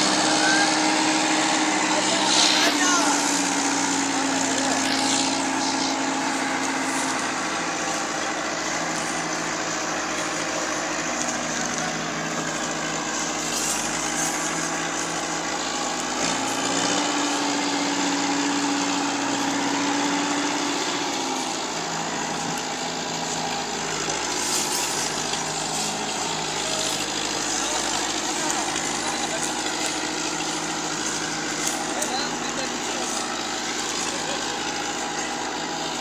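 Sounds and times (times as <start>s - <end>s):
tractor diesel engine running hard: 0.0s - 36.0s.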